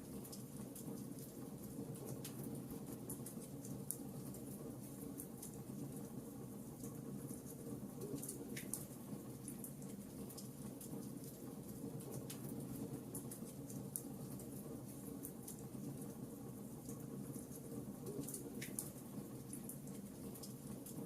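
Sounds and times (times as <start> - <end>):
fire crackling in a fireplace: 0.0 - 21.0.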